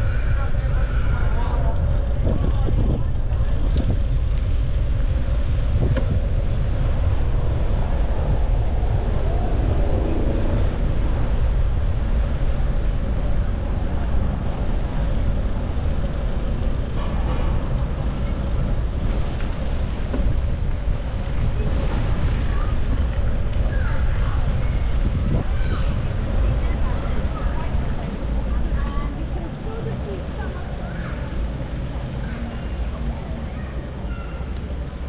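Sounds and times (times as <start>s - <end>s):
faint voices: 0.0s - 35.0s
wind buffeting microphone: 0.0s - 35.0s.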